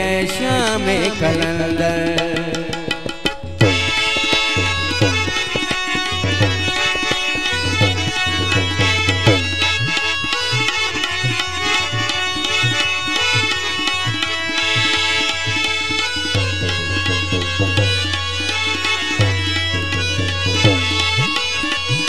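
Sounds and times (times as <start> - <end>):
tabla drumming: 0.0 - 22.0
sustained melodic notes: 3.7 - 22.0.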